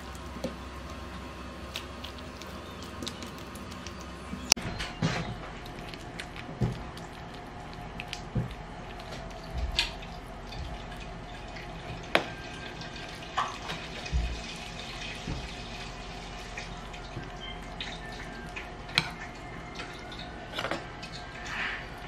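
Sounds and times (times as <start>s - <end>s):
wet food squelches: 0.0s - 22.0s.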